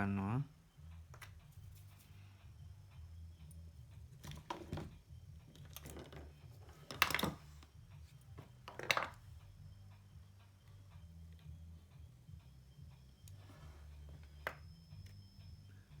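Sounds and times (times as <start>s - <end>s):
steady low hum: 0.0s - 4.3s, 7.4s - 16.0s.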